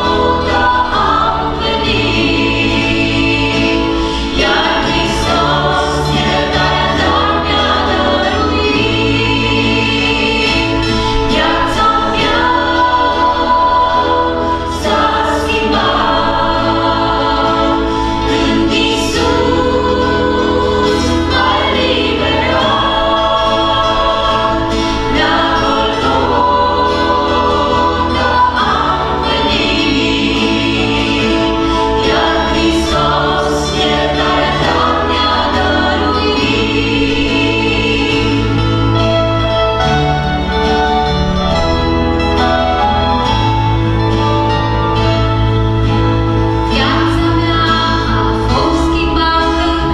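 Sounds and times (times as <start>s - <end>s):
acoustic guitar: 0.0s - 49.9s
electric bass: 0.0s - 49.9s
group singing in harmony: 0.0s - 49.9s.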